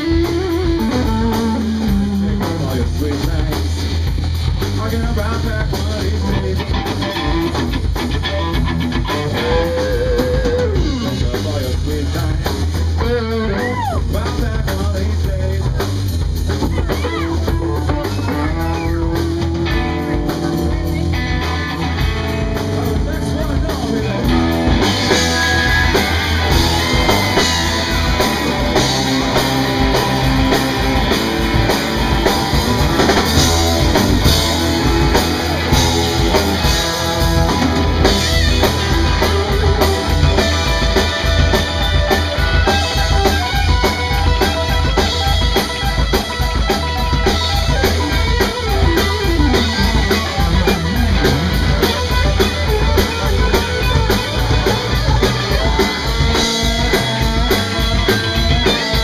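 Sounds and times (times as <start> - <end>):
drum kit steady beat: 0.0 - 59.0
electric bass: 0.0 - 59.0
electric guitars: 0.0 - 59.0.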